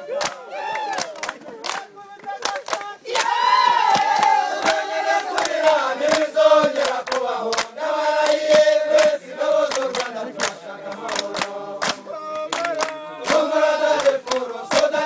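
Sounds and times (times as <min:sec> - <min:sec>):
hand claps: 0:00.0 - 0:15.0
group singing a chant: 0:02.3 - 0:15.0.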